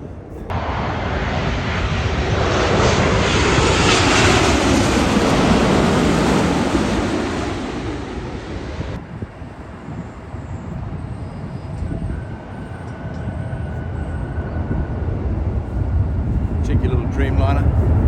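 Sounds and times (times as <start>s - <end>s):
airliner jet engines roaring overhead: 0.0s - 18.0s.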